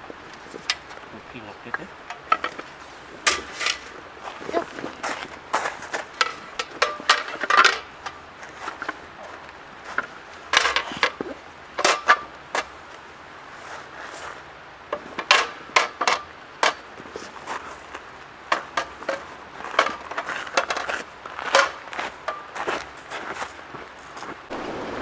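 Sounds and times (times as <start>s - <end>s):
camp cooking gear clattering: 0.0s - 24.5s
firewood being handled: 0.0s - 24.5s.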